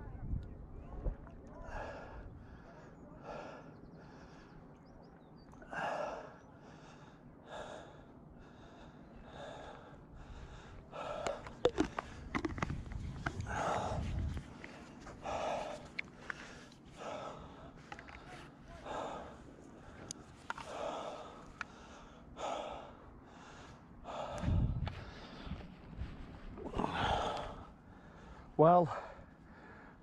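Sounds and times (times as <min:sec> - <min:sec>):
man panting heavily: 0:01.6 - 0:04.6, 0:05.7 - 0:12.5, 0:13.4 - 0:14.4, 0:15.1 - 0:25.7, 0:26.6 - 0:30.0.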